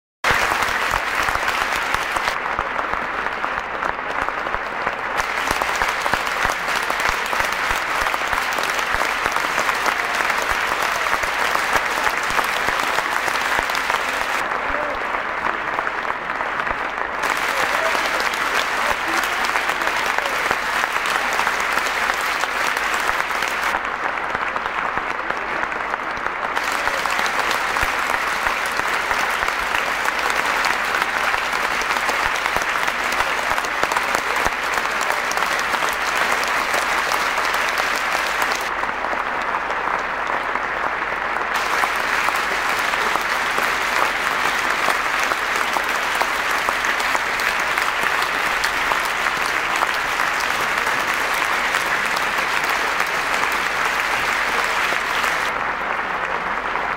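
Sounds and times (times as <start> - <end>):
audience applauding: 0.2 - 56.9.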